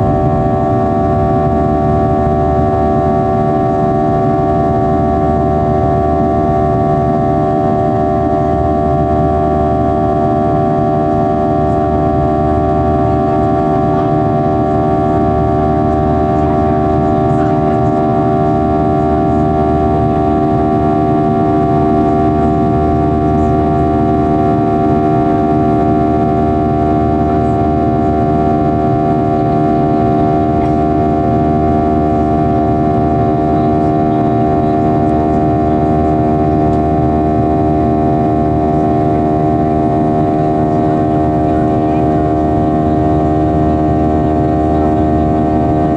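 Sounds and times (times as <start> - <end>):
jet engine drone in cabin: 0.0 - 45.9.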